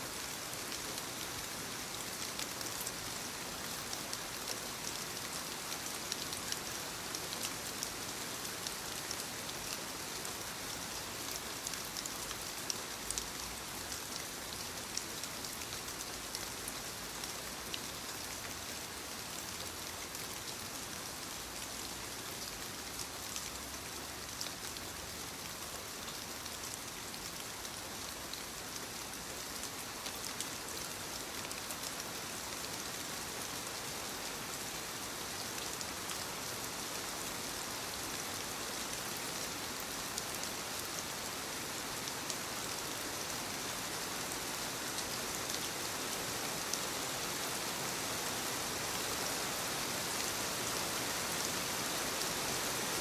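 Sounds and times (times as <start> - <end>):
light rain on leaves: 0.0 - 53.0.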